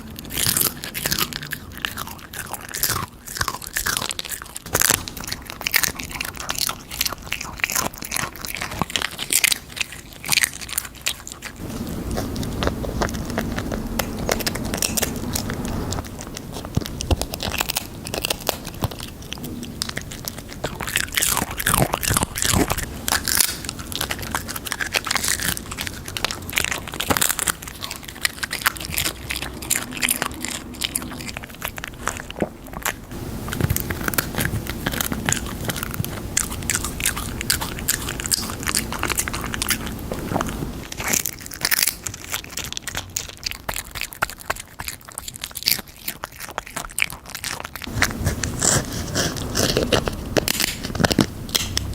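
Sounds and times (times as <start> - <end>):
pet crunching chips: 0.0 - 51.9.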